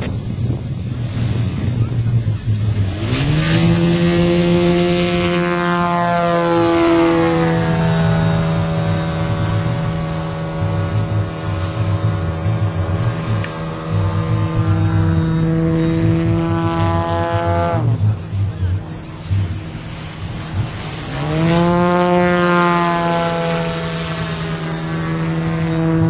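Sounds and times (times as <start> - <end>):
model plane engine buzzing: 0.0 - 26.0.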